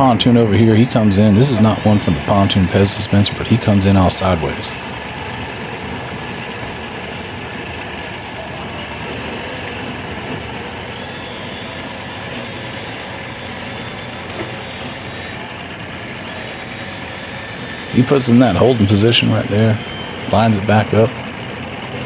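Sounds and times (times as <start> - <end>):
outboard motors humming: 0.0 - 22.0.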